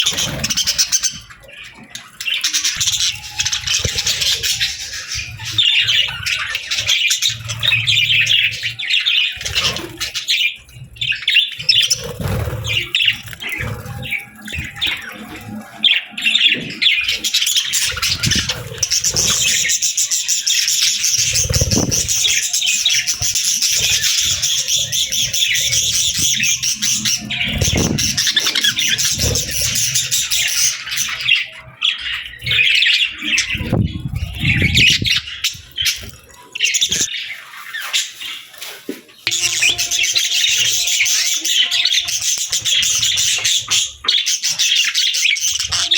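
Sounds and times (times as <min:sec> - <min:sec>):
budgerigars chirping and warbling: 0:00.0 - 0:45.9.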